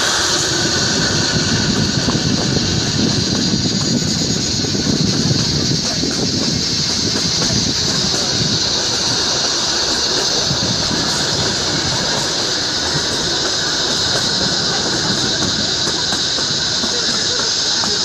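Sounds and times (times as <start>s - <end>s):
toy train rumbling: 0.0s - 18.0s.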